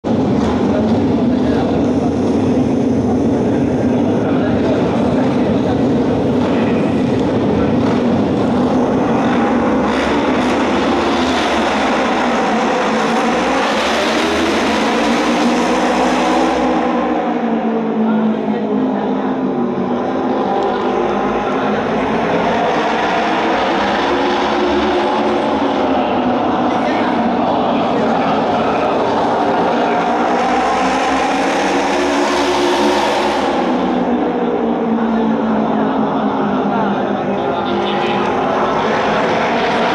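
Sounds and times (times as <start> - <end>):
racing motorcycle engines roaring: 0.0 - 39.9.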